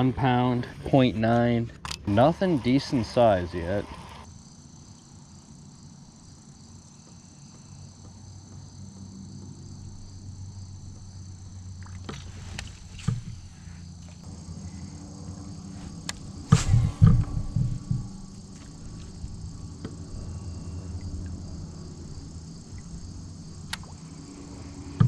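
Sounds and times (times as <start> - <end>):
insects droning: 0.0 - 25.0
low steady hum: 0.0 - 25.0.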